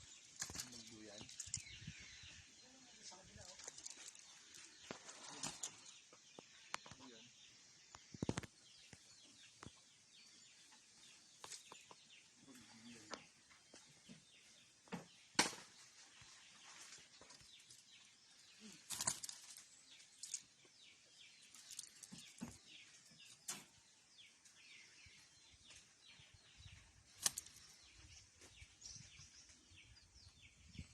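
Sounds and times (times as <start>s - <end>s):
small bird chirping: 0.0s - 30.9s.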